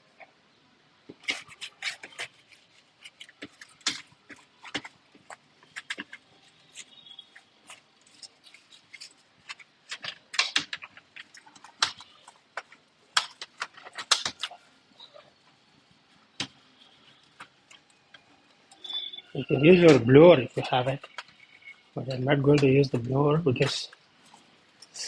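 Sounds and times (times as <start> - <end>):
tools clicking and scraping on laptop: 1.1 - 15.6, 16.3 - 20.0, 20.6 - 22.7.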